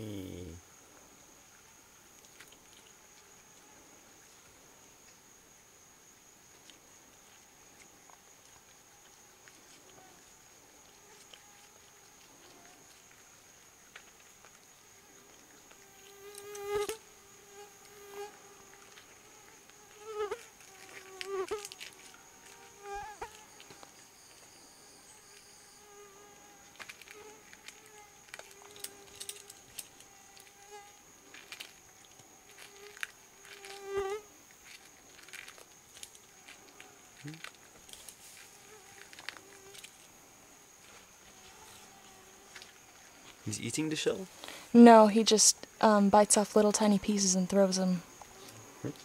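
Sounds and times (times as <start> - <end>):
insect buzzing: 0.0 - 49.0.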